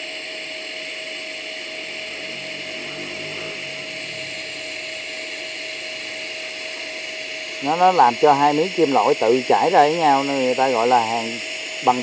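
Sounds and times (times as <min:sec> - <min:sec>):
welding arc hissing and whining: 0:00.0 - 0:12.0.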